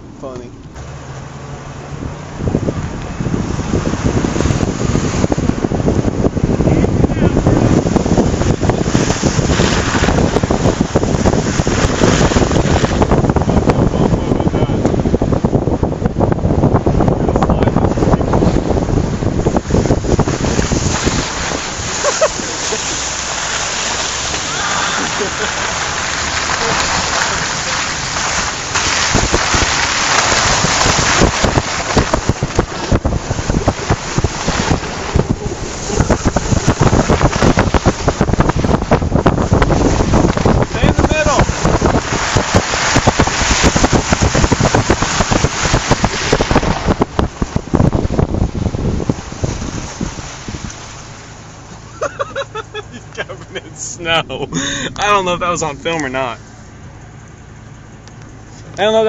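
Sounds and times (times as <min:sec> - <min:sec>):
wind buffeting microphone: 0:00.0 - 0:56.1.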